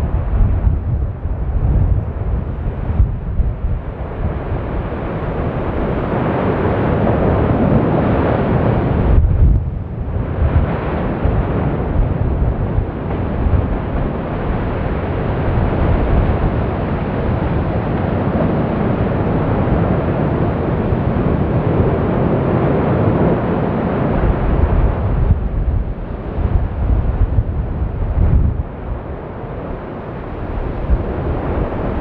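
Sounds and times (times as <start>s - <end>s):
lava fountain rushing and rumbling: 0.0s - 32.0s.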